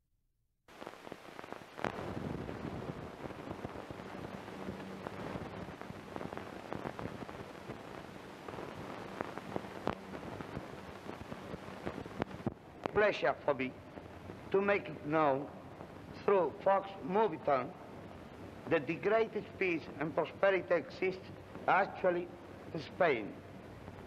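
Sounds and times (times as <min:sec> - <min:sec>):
film soundtrack crackle and hiss: 0:00.7 - 0:24.0.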